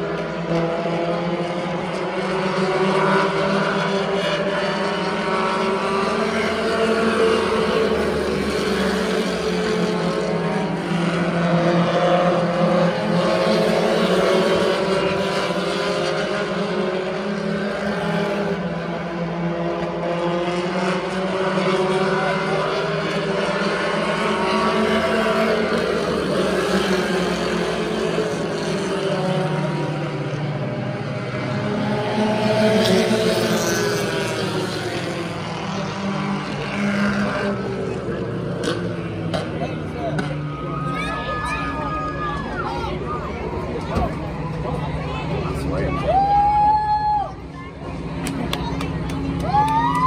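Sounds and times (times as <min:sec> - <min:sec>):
race car engines droning: 0:00.0 - 0:50.0.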